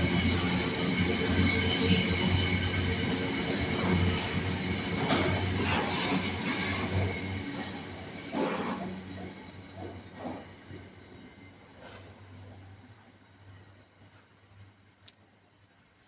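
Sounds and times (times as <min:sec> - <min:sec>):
train running on rails: 0:00.0 - 0:14.9.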